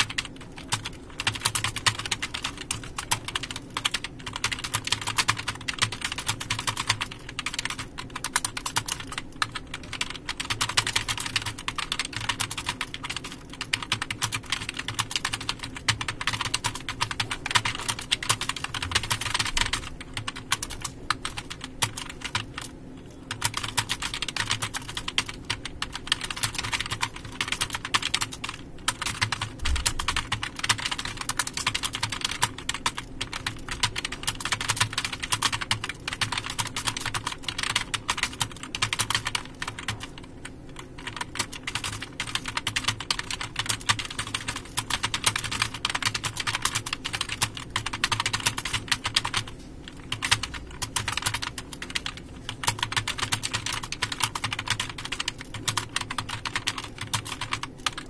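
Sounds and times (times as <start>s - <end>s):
fast typing on a keyboard: 0.0s - 58.0s.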